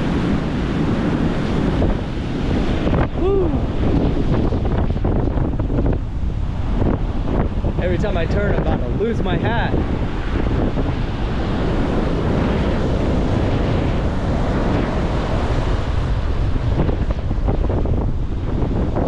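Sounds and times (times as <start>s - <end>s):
rough ocean surf: 0.0s - 19.0s
wind buffeting microphone: 0.0s - 19.0s.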